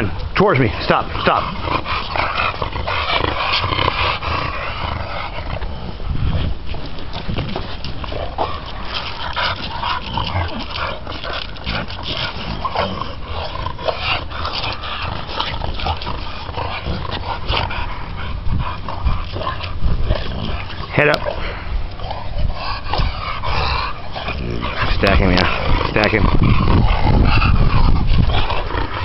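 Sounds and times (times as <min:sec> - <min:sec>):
dogs sniffing and grunting: 0:00.0 - 0:29.0.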